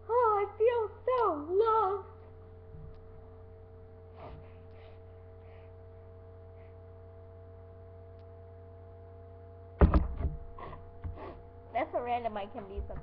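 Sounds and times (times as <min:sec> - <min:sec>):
steady low hum with tones: 0:00.0 - 0:13.0.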